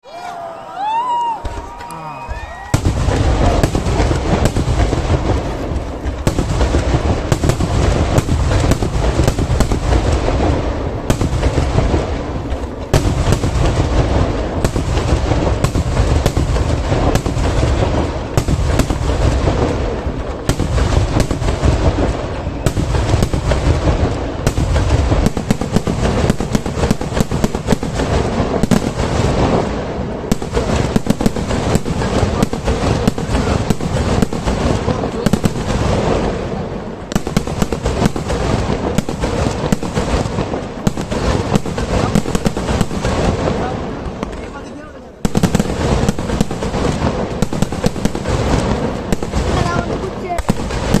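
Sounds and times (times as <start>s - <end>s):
fireworks cracks and booms: 0.0s - 51.0s.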